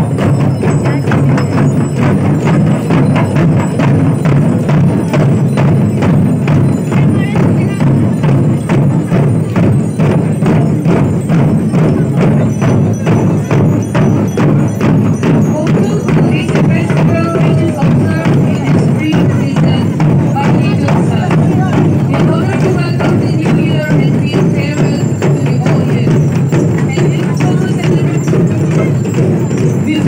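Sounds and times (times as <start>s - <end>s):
barrel drums beaten fast: 0.0s - 30.0s.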